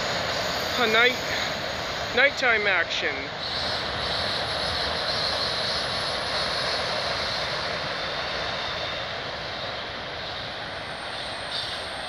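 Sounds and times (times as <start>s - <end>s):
freight train cars rumbling on rails: 0.0s - 12.0s.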